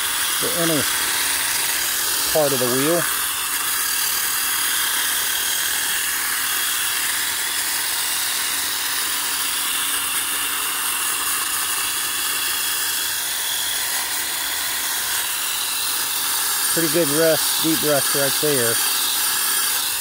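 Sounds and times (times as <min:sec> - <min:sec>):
wire brush scrubbing metal rim: 0:00.0 - 0:20.0.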